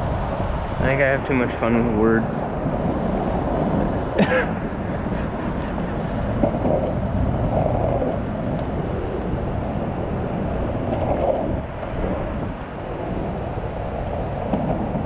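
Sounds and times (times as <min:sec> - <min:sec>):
low rumbling: 0:00.0 - 0:15.0.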